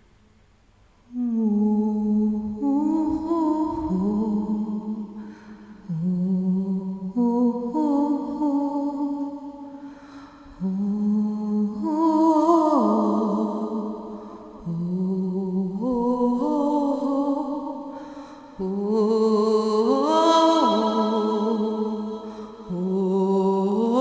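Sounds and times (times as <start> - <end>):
person humming a wordless chant: 1.1 - 9.8, 10.5 - 24.0.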